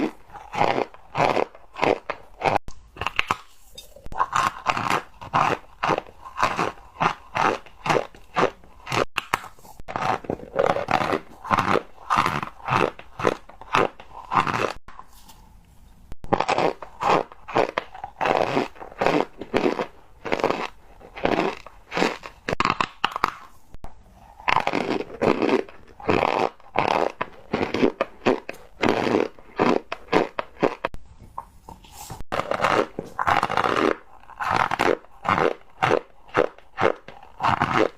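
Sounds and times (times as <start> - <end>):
dry crunchy chewing: 0.0 - 15.5, 16.2 - 31.0, 31.6 - 37.9.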